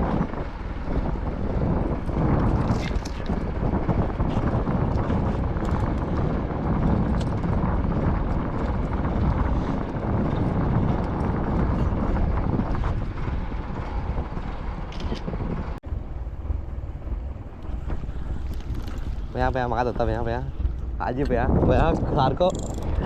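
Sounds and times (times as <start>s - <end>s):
boat engine rumble: 0.0s - 23.0s
wind buffeting microphone: 0.0s - 23.0s.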